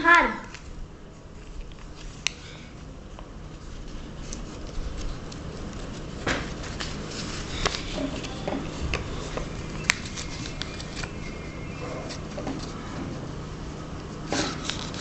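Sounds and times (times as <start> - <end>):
steady low hum: 0.0 - 15.0
paper rustling and crackling: 0.5 - 13.3, 14.0 - 15.0.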